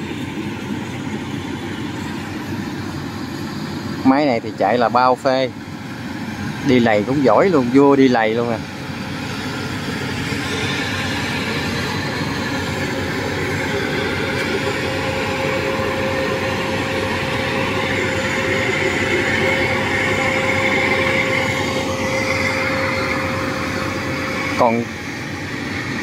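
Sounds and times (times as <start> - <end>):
combine harvester rumbling: 0.0 - 26.0
higher machine whine: 0.0 - 26.0.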